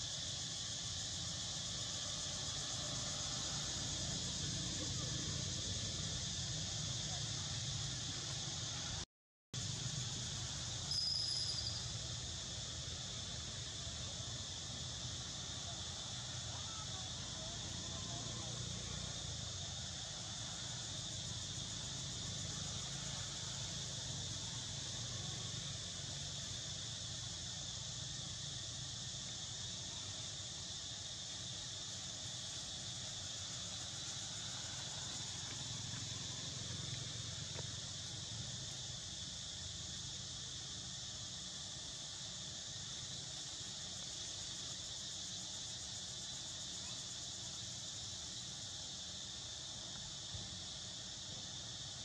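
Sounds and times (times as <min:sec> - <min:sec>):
insects buzzing and trilling: 0:00.0 - 0:09.0, 0:09.6 - 0:52.0.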